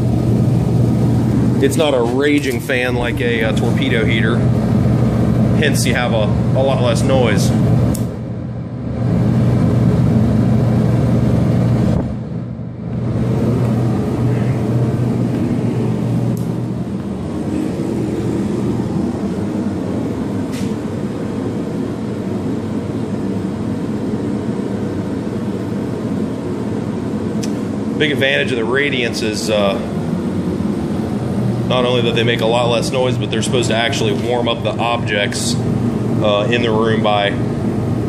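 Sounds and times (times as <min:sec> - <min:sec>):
heater fan whirring: 0:00.0 - 0:38.0
low hum: 0:00.0 - 0:38.0.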